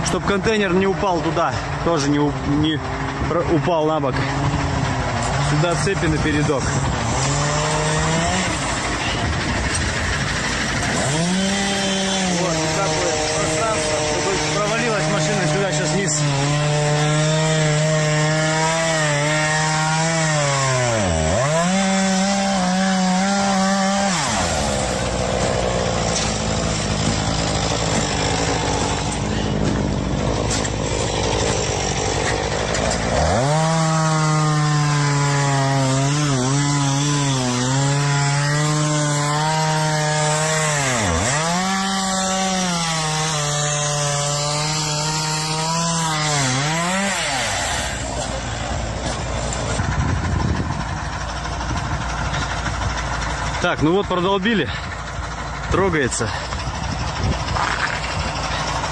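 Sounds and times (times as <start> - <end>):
motor running at high speed: 0.0 - 58.9.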